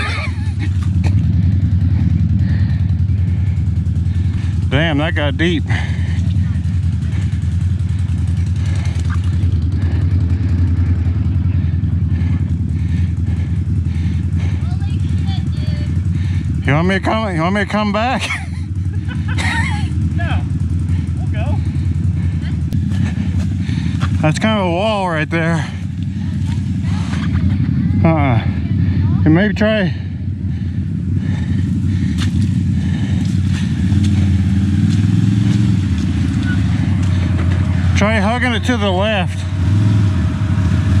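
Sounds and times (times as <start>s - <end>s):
atv engine running: 0.0s - 41.0s.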